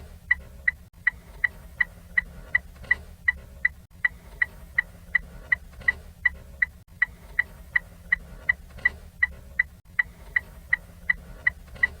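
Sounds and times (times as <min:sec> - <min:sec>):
turn signal ticking: 0:00.0 - 0:12.0.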